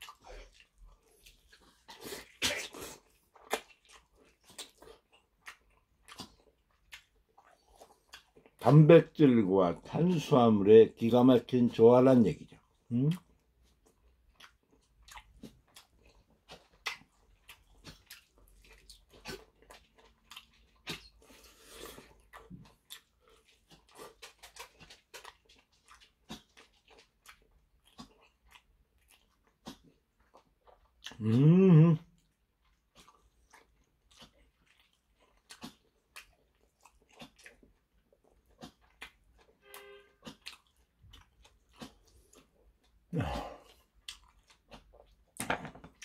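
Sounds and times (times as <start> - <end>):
chewing and lip smacks: 0.0 - 8.8, 12.4 - 31.3, 32.0 - 46.0.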